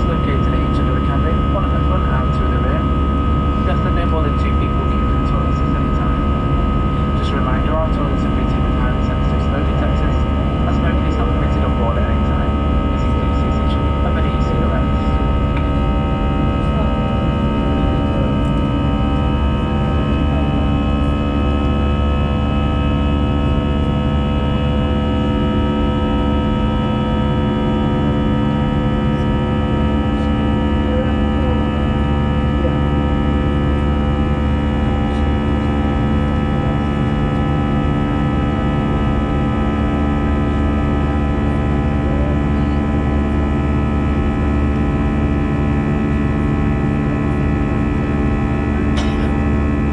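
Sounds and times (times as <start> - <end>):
airplane cabin drone: 0.0 - 49.9
whining engine tones: 0.0 - 49.9.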